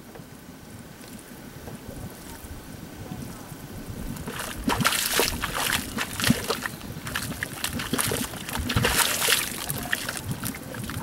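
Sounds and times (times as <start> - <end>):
muddy water bubbling and gurgling: 0.8 - 11.0.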